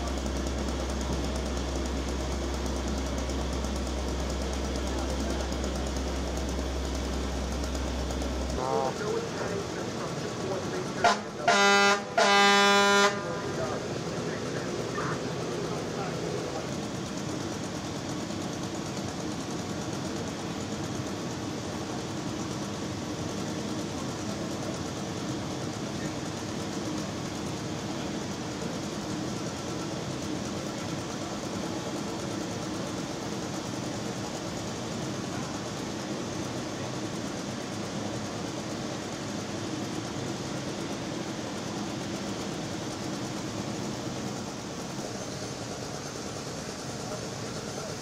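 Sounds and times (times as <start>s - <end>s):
diesel engines idling: 0.0s - 48.0s.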